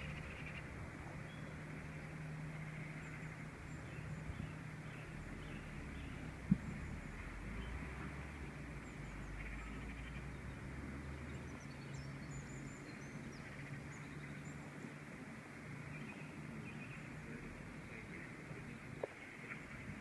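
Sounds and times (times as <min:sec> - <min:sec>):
outdoor background hiss: 0:00.0 - 0:20.0
small birds chirping: 0:00.0 - 0:20.0.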